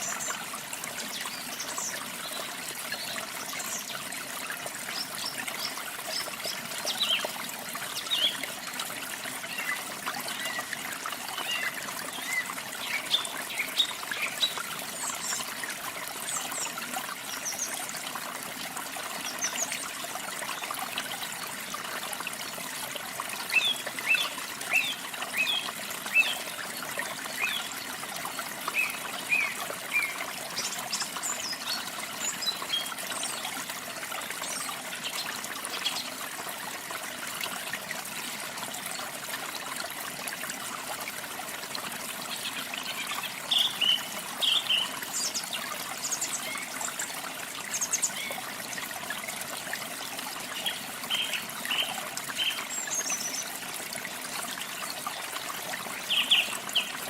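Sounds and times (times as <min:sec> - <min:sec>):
waterfall trickling and splashing: 0:00.0 - 0:57.0.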